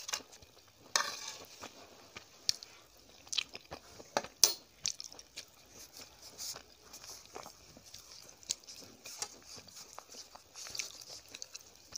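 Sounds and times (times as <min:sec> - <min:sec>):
chewing and mouth sounds: 0:02.1 - 0:11.9.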